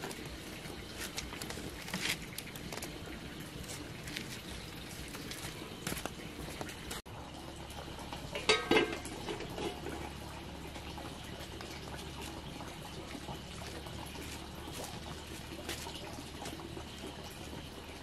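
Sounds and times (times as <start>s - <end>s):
clatter of tending fire: 0.0s - 7.0s, 8.0s - 18.0s
pot boiling: 0.0s - 18.0s.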